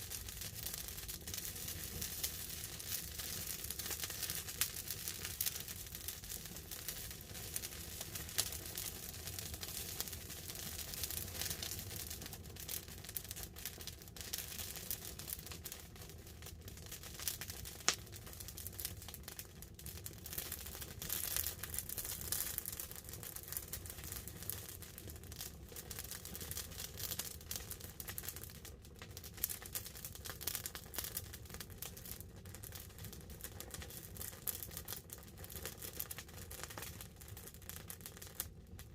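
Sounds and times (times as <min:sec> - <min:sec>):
campfire crackling and popping: 0:00.0 - 0:38.9
light rain on a tarp: 0:00.0 - 0:38.9.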